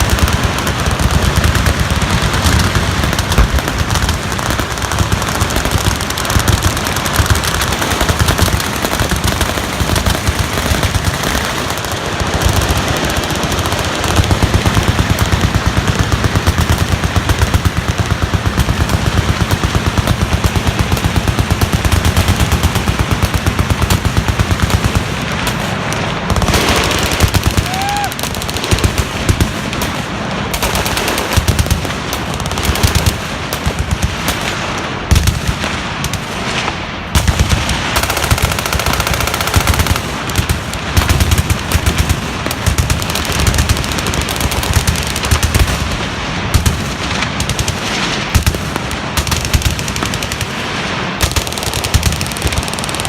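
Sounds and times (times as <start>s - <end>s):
machine guns firing: 0.0s - 53.0s.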